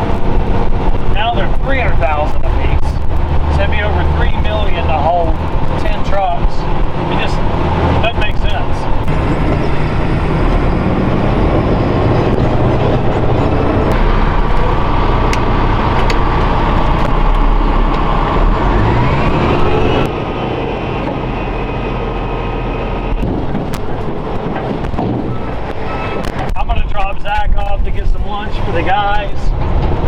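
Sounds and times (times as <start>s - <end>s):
diesel engine revving: 0.0s - 30.0s
road noise inside cab: 0.0s - 30.0s.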